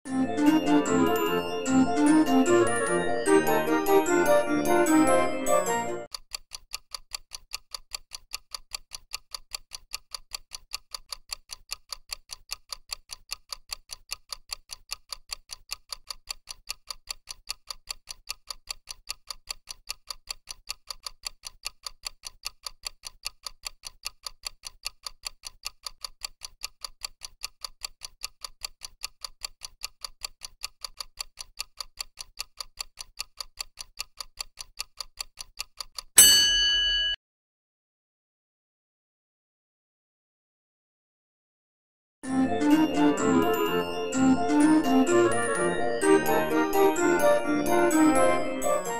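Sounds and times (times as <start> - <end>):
clock ticking: 0.3 - 36.3, 42.2 - 48.9.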